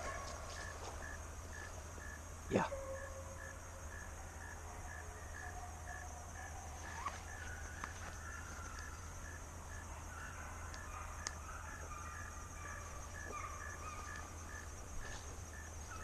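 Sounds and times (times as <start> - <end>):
distant hounds baying: 0.0 - 16.0
insects droning: 0.0 - 16.0.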